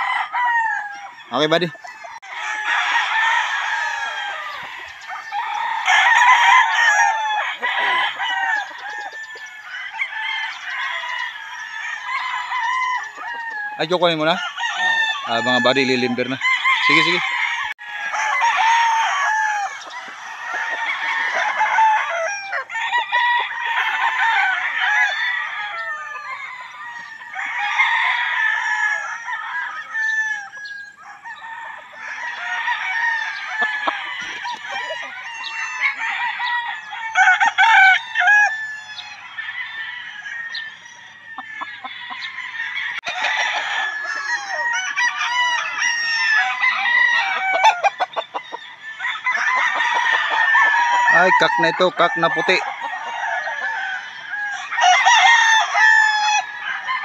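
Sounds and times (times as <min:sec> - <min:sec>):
roosters crowing: 0:00.0 - 0:57.0.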